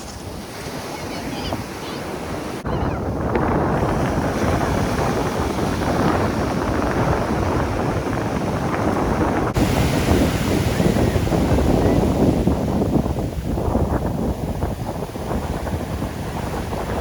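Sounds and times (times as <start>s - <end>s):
rough surf: 0.0s - 17.0s
wind buffeting microphone: 0.0s - 17.0s.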